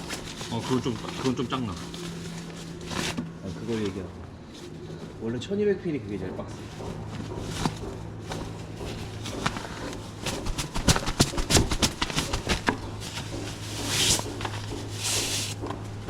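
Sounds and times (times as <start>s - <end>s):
nylon fabric rustling: 0.0s - 5.3s, 6.5s - 15.6s
steady low hum: 0.0s - 16.0s.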